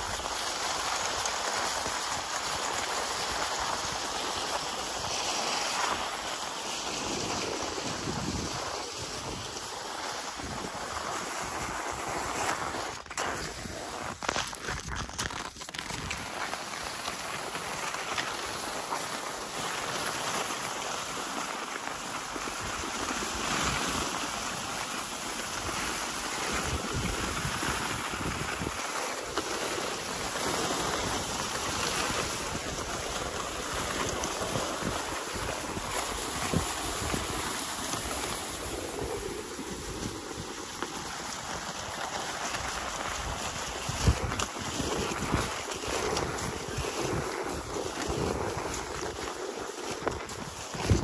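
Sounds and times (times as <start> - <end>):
wind blowing across microphone: 0.0 - 51.0.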